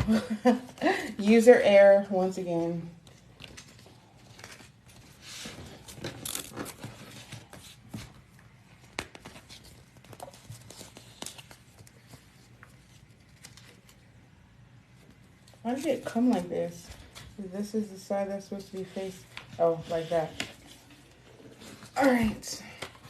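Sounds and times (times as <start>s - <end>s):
label paper rustling and scraping: 3.1s - 14.2s, 15.0s - 22.5s.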